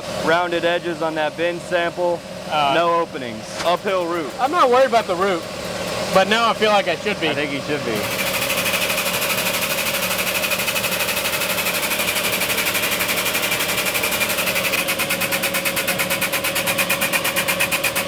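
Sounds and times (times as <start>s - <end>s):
hydraulic pump pulsing: 2.8s - 18.0s.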